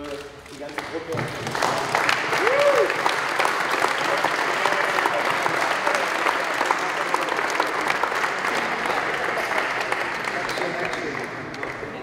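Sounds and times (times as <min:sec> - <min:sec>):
crowd applauding: 0:00.5 - 0:12.0.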